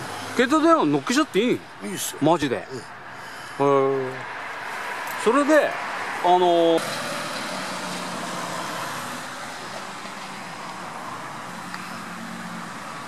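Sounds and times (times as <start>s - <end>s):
distant vehicle engine hum: 0.0s - 13.0s
outdoor background noise: 0.0s - 13.0s.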